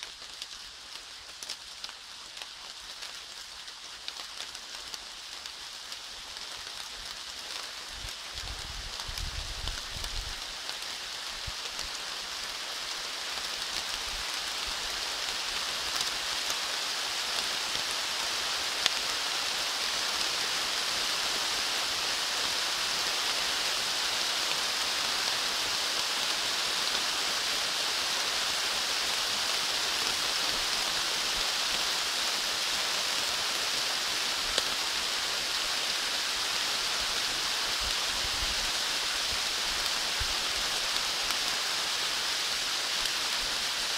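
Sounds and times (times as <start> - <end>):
rain falling on foliage: 0.0 - 43.9
sharper raindrops: 0.0 - 43.9.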